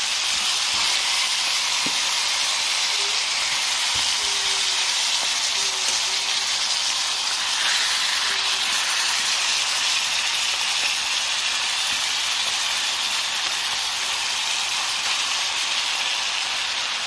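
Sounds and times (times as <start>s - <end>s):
chicken sizzling in a skillet: 0.0s - 17.0s.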